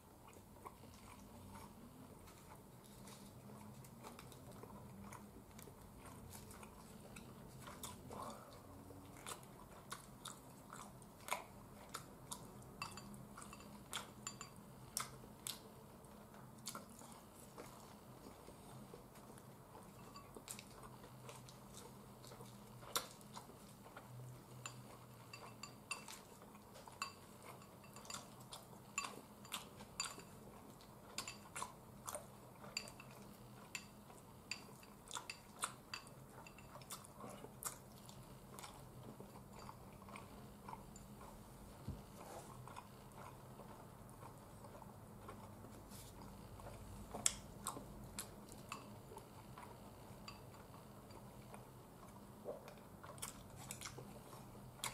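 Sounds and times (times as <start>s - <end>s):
chewing: 0.0s - 54.9s.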